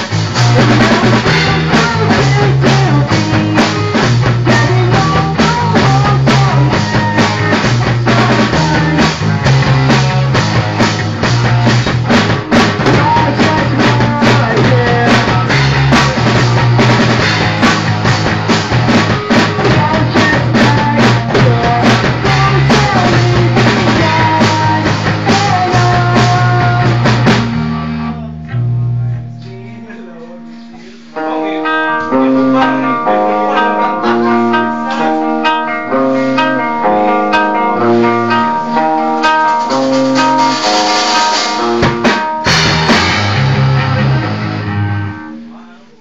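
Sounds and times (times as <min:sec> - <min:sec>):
bass guitar: 0:00.0 - 0:46.0
drum kit: 0:00.0 - 0:46.0
electric guitar: 0:00.0 - 0:46.0.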